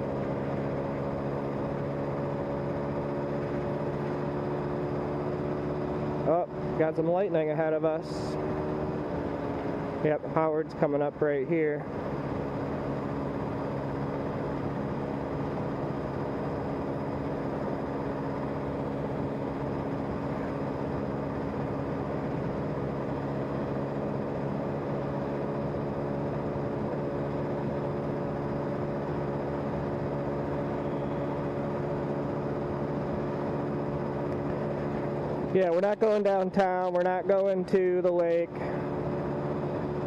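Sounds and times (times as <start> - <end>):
scooter engine humming: 0.0 - 40.0
wind and road noise: 0.0 - 40.0.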